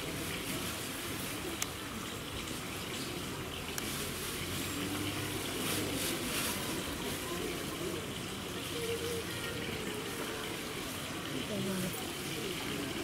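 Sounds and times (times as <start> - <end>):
faint voices: 0.0 - 13.0
running water rushing: 0.0 - 13.0.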